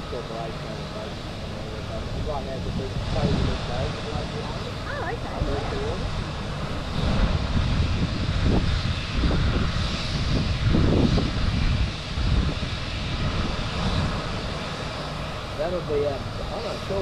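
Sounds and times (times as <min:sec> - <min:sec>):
distant helicopter engine and rotor: 0:00.0 - 0:17.0
wind rumbling on microphone: 0:00.0 - 0:17.0.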